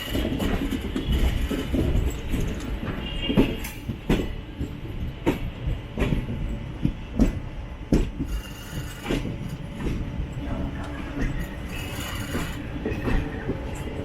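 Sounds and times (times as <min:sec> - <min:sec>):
low train rumble: 0:00.0 - 0:14.0
train wheels clacking over rail joints: 0:00.0 - 0:14.0.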